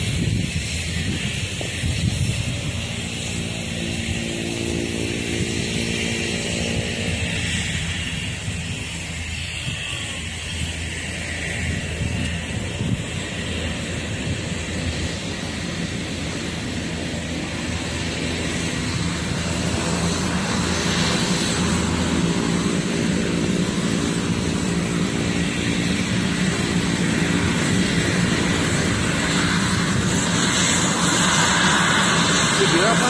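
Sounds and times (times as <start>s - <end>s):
propeller aircraft engines droning: 0.0s - 33.0s.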